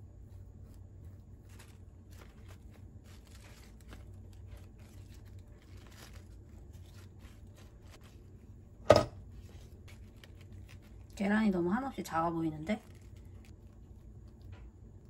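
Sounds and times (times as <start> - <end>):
low steady hum: 0.0 - 15.0
lettuce leaves rustling: 0.3 - 14.0.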